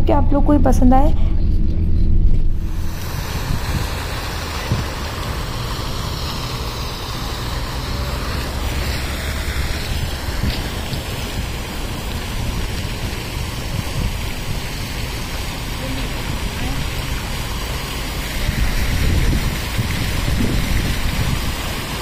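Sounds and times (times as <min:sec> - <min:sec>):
fountain water splashing: 0:02.7 - 0:22.0.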